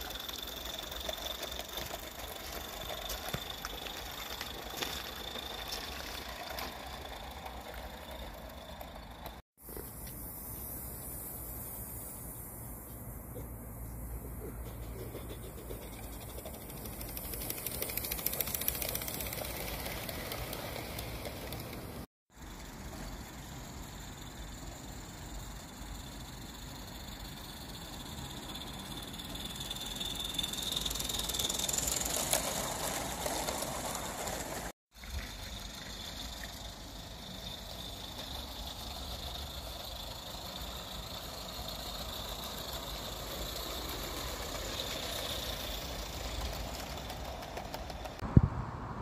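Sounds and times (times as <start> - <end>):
small steam locomotive running: 0.0 - 48.2.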